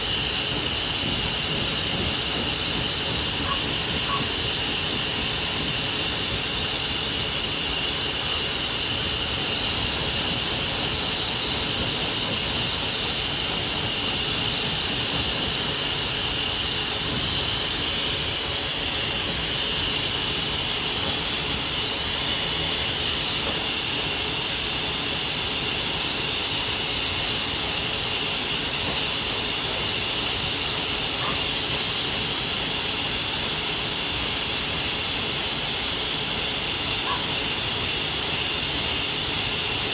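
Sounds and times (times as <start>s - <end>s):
pet dryer blowing: 0.0s - 39.9s.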